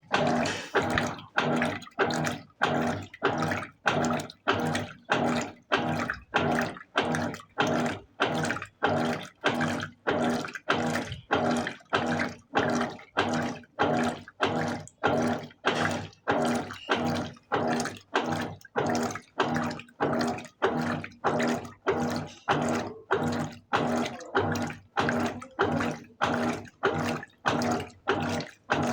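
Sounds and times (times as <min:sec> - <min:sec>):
washing machine agitating: 0:00.0 - 0:28.9.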